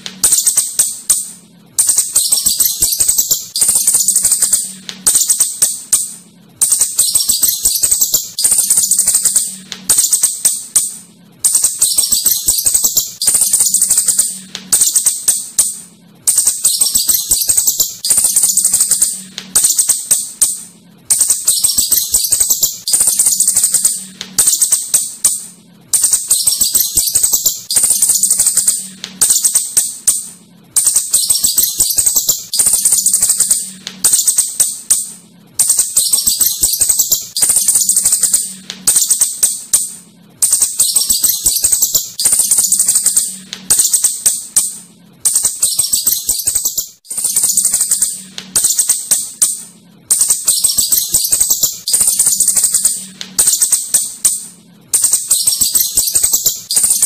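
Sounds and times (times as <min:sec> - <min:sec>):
shrew chittering: 0:00.2 - 0:57.0.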